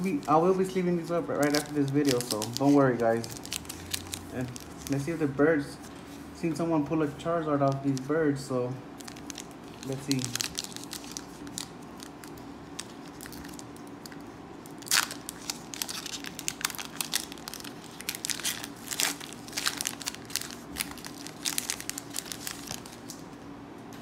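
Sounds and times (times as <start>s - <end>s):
foil wrapper crinkling: 0.0s - 5.4s, 7.4s - 8.3s, 9.0s - 23.4s.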